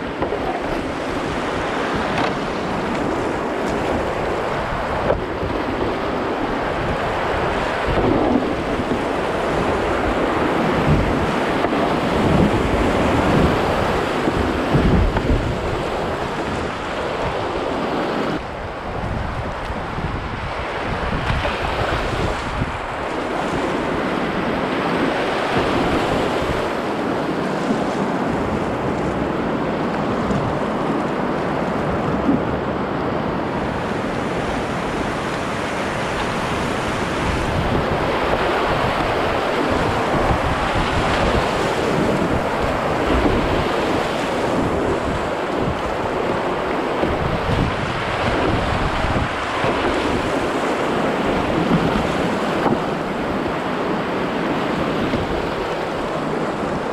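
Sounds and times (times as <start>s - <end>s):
whitewater rapids rushing and splashing: 0.0s - 56.9s
wind buffeting on microphone: 0.0s - 56.9s.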